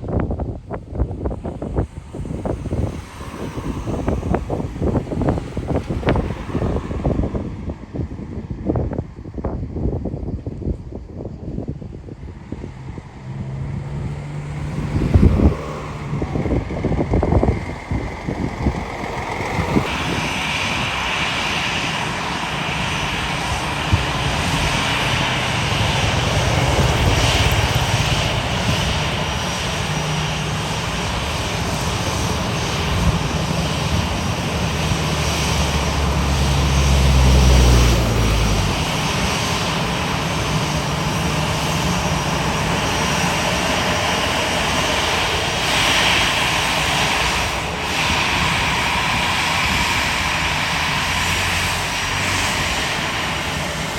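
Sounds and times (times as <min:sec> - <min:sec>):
airplane engines: 0:00.0 - 0:53.9.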